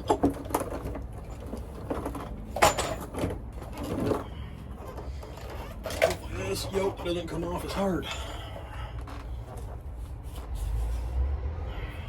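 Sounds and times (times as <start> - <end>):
metal clanks and knocks: 0.0 - 9.8.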